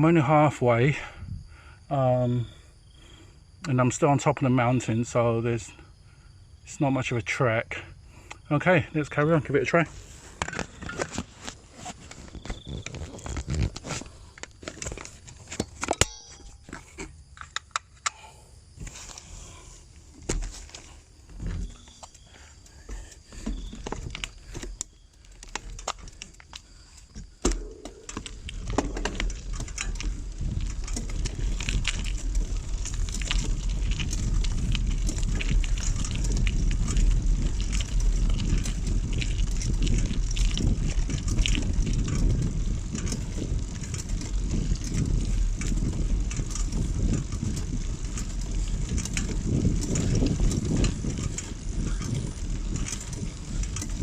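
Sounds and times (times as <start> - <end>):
wind rumbling on microphone: 0.0 - 3.6, 8.9 - 15.8, 18.6 - 54.0
bicycle tyres crackling on road: 8.0 - 18.0, 18.6 - 54.0.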